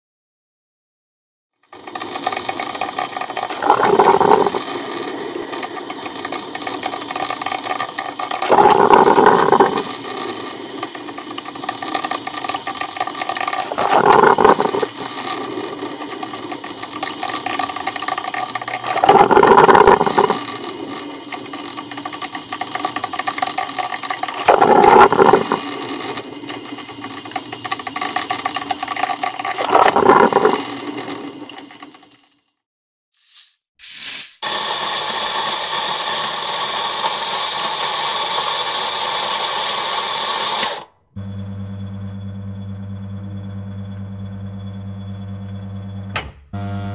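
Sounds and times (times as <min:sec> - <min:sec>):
coffee machine humming: 0:01.7 - 0:32.3, 0:34.4 - 0:46.9.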